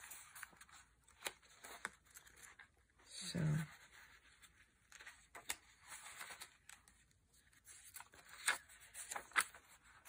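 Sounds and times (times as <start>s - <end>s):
paper pages turning: 0.0s - 3.0s, 3.6s - 10.0s.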